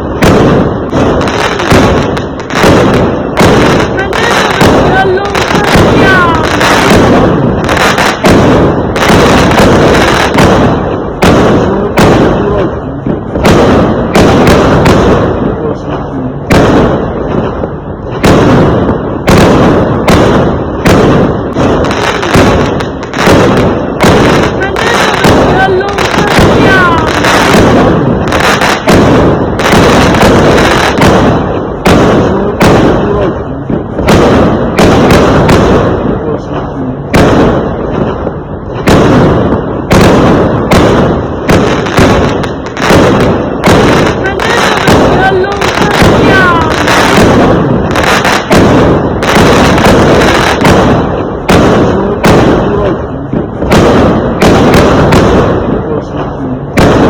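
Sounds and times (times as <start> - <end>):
fireworks exploding: 0.0 - 57.0
rumbling echo: 0.0 - 57.0.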